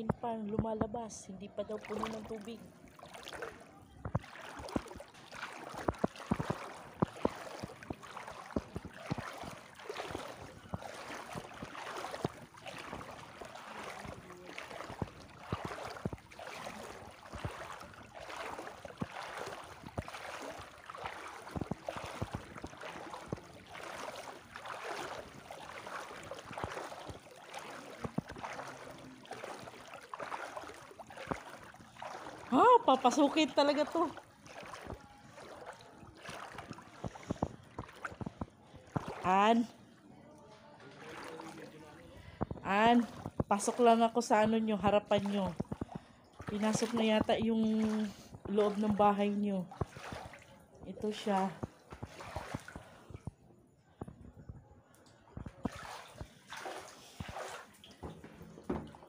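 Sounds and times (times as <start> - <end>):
person wading through floodwater: 0.0 - 59.0.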